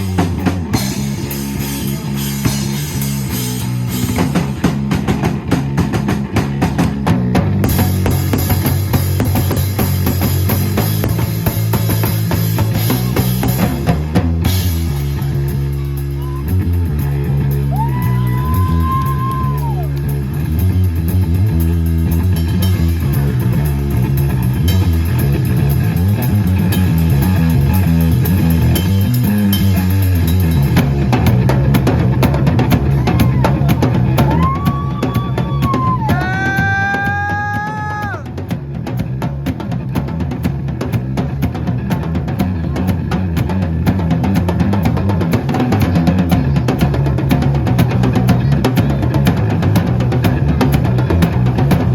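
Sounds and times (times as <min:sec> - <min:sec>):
bass guitar: 0:00.0 - 0:51.9
drum kit: 0:00.0 - 0:51.9
live rock band playing: 0:00.0 - 0:51.9.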